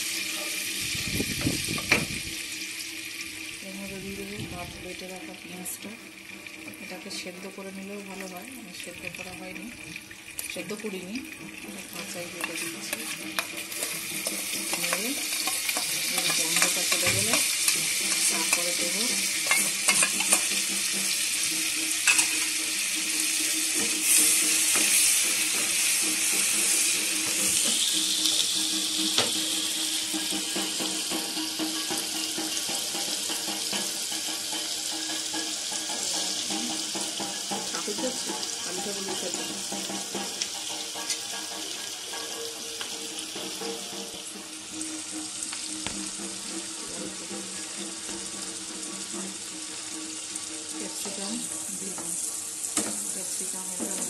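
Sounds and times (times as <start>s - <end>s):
onion paste sizzling in oil: 0.0s - 54.0s.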